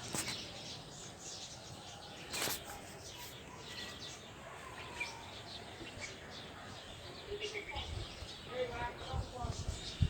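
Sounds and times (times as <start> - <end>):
faint outdoor hiss: 0.0 - 10.0
small birds chirping: 0.0 - 10.0.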